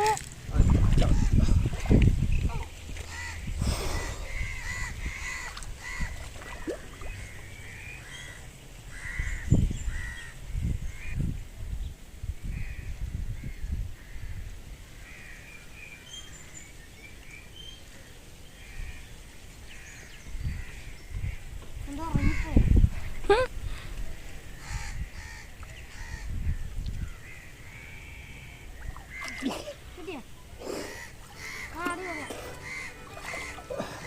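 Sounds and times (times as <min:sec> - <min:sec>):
birds calling: 0:00.0 - 0:11.2, 0:15.0 - 0:34.0.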